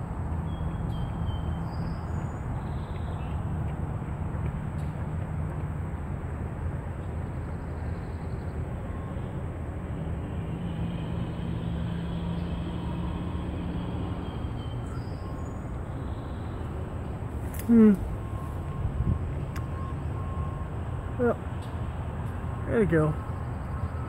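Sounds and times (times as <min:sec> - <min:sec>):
distant engine rumble: 0:00.0 - 0:24.0.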